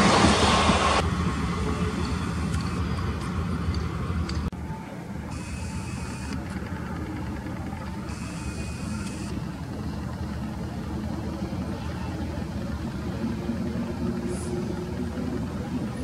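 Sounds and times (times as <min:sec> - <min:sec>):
train locomotive engine rumbling: 0:00.0 - 0:16.0.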